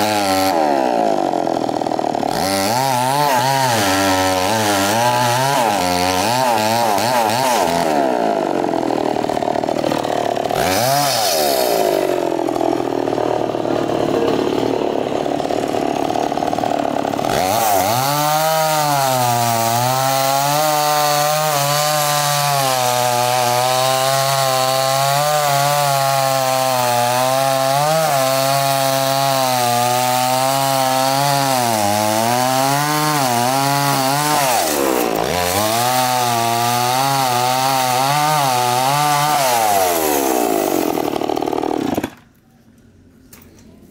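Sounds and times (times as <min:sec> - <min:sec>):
chainsaw cutting through log: 0:00.0 - 0:42.4.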